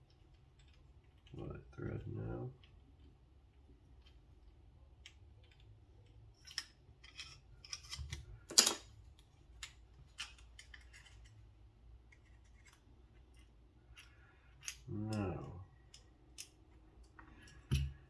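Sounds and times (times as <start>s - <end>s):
small metal parts clicking: 0.1s - 1.4s, 2.6s - 8.9s, 9.5s - 11.4s, 12.1s - 17.8s.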